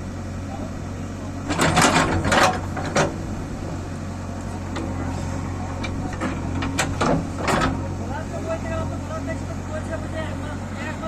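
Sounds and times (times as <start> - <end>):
backhoe loader engine running: 0.0 - 11.0.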